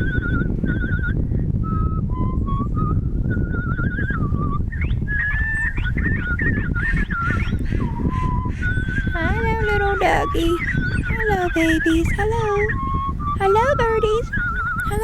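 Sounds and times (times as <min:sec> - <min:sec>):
person whistling a warbling tune: 0:00.0 - 0:15.0.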